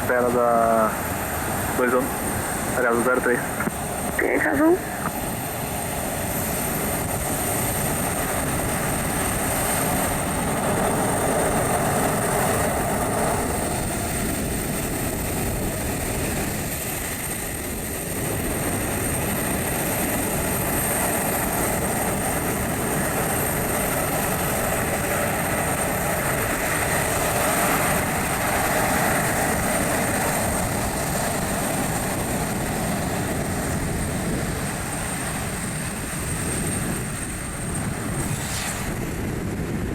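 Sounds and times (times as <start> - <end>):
high jet engine whine: 0.0 - 39.9
jet engines rumbling: 0.0 - 39.9.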